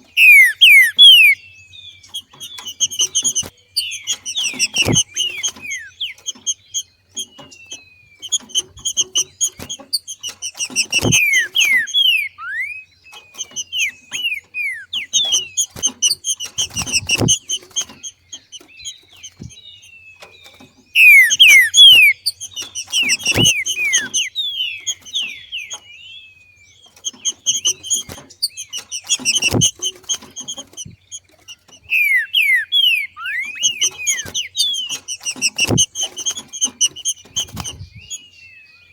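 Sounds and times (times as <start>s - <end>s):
bird chattering chirps: 0.0s - 38.9s.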